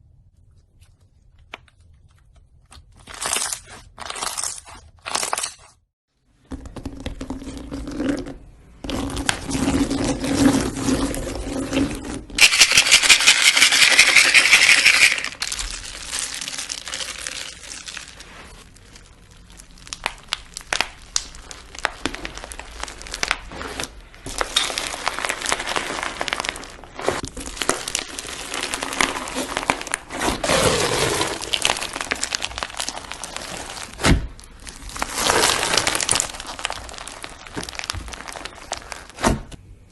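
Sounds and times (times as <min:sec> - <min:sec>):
slime crackling and squelching: 0:00.1 - 0:05.9, 0:07.1 - 0:13.2, 0:14.8 - 0:39.5.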